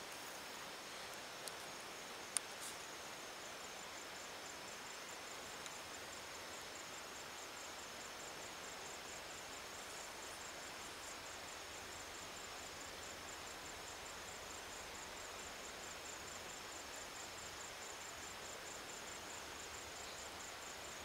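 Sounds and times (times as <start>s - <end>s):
insect chirping: 0.0s - 21.0s
soft hiss: 0.0s - 21.0s.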